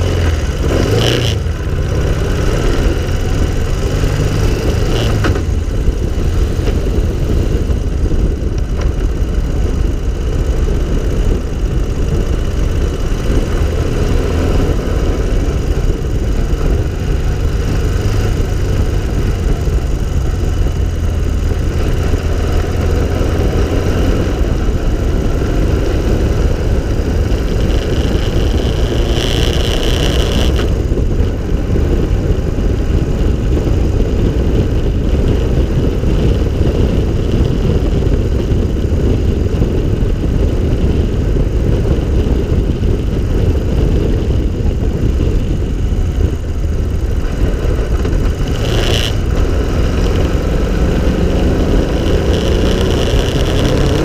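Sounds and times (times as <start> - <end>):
car engine running: 0.0 - 54.0
wind rumble on microphone: 0.0 - 54.0.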